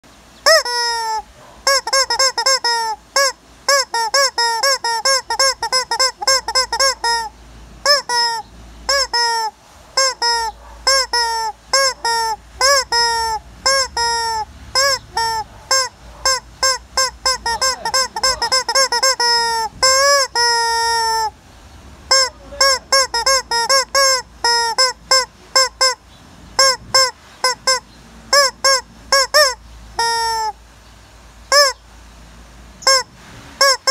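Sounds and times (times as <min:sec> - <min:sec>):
chicken squawking: 0:00.4 - 0:21.4, 0:22.0 - 0:26.0, 0:26.6 - 0:30.6, 0:31.5 - 0:31.8, 0:32.8 - 0:33.9.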